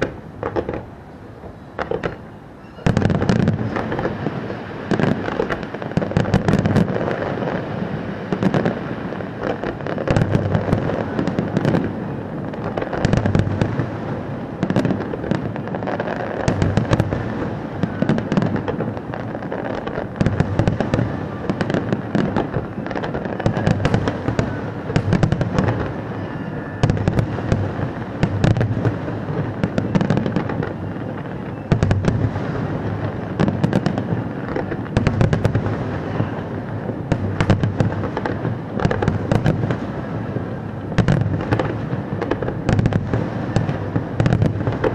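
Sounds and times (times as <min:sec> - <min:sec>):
firework crackling and popping: 0:00.0 - 0:44.9
deep firework booms: 0:02.8 - 0:44.9.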